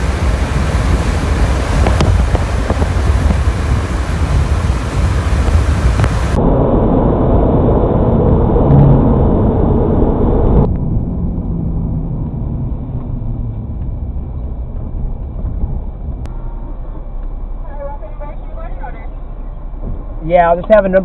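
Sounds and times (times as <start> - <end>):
road and wind noise inside car: 0.0 - 21.0.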